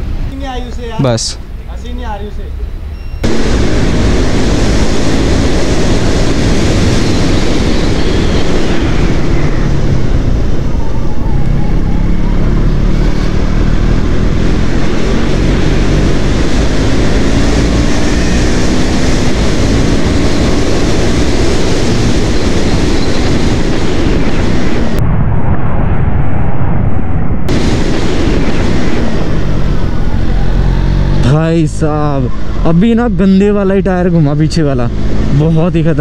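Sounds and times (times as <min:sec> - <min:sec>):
wind rush on microphone: 0:03.2 - 0:36.0.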